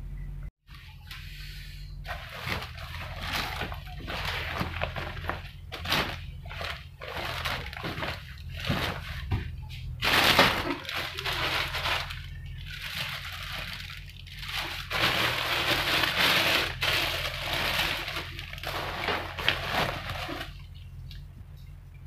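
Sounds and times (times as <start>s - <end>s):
bags rustling and crinkling: 2.0s - 20.9s.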